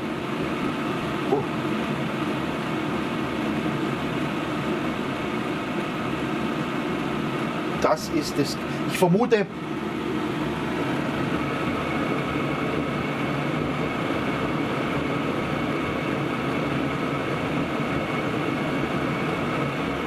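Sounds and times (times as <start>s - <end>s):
air heater burner roaring: 0.0s - 20.0s
faint whine: 0.0s - 20.0s.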